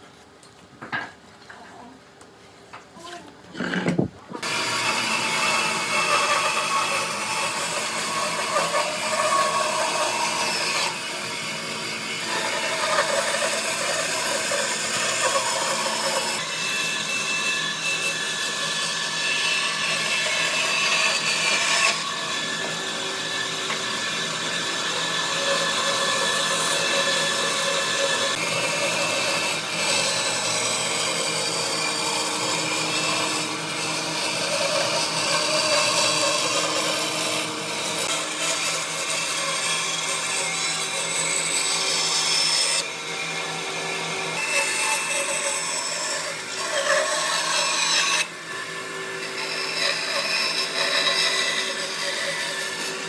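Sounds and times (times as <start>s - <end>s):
wood cutting and sanding: 3.6s - 53.0s.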